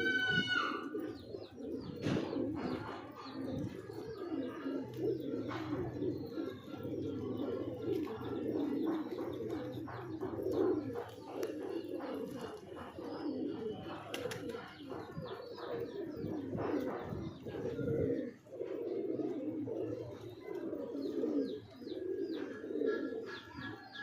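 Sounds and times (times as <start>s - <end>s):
pigeons cooing: 0.0s - 24.0s
small birds chirping: 0.0s - 24.0s.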